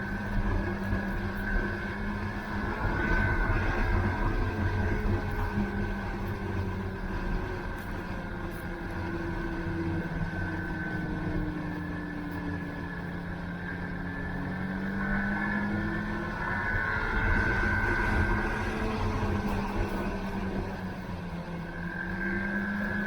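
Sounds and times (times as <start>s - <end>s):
snowmobile engine running: 0.0s - 23.0s.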